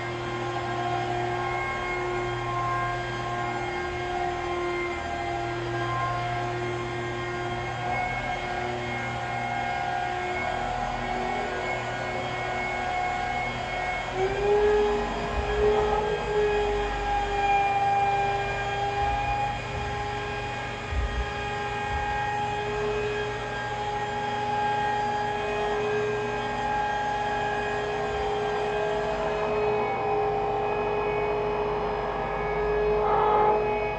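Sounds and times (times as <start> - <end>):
rotary polisher motor whine: 0.0 - 33.9.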